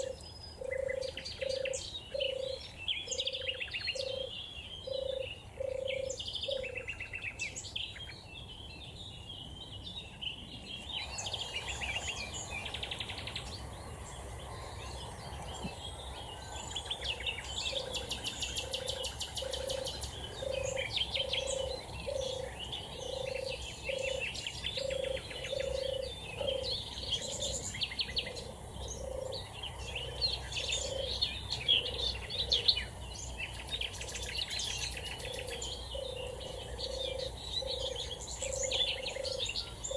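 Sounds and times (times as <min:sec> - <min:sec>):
turtle dove purring: 0:00.0 - 0:06.9, 0:11.1 - 0:39.9
songbirds chirping and trilling: 0:00.0 - 0:39.9.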